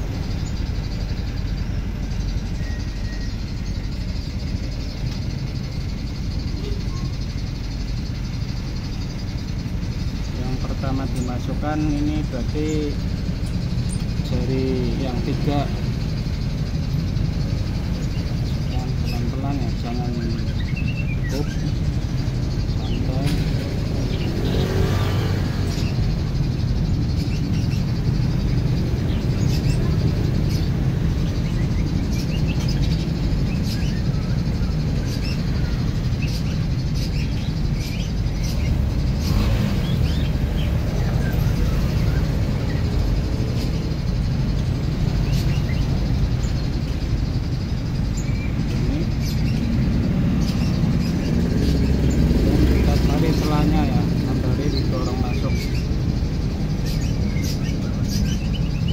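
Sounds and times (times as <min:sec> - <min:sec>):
high bird chirps: 0:00.0 - 0:58.9
low rumble of vehicle traffic: 0:00.0 - 0:58.9.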